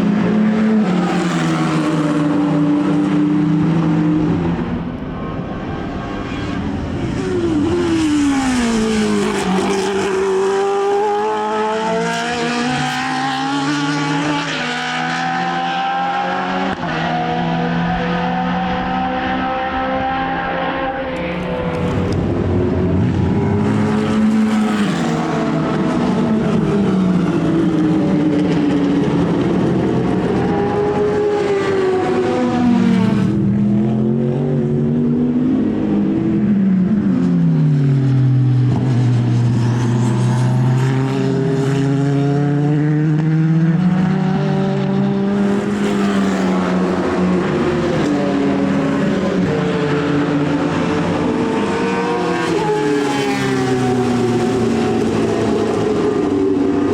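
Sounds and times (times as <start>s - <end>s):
racing car engines revving: 0.0s - 56.9s.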